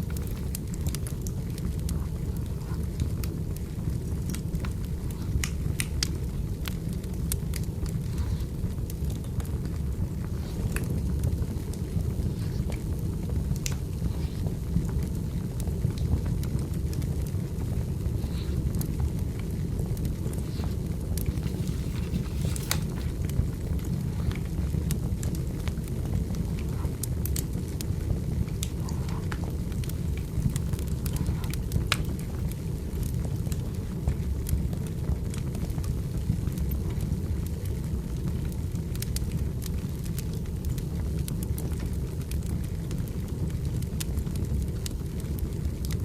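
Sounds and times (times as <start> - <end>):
fire low rumble: 0.0 - 46.0
fire popping and crackling: 0.0 - 46.0.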